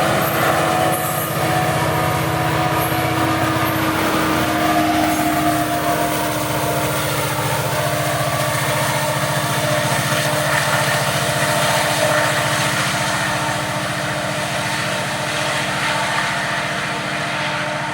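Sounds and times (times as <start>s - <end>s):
diesel locomotive engine drone: 0.0s - 17.9s
freight train passing: 0.0s - 17.9s.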